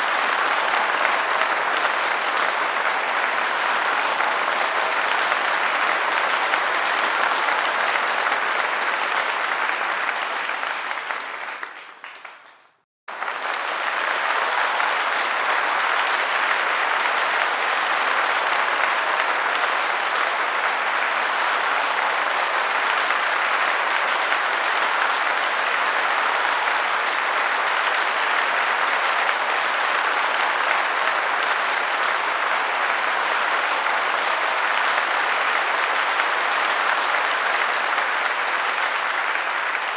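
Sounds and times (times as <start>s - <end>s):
crowd applause: 0.0s - 39.9s.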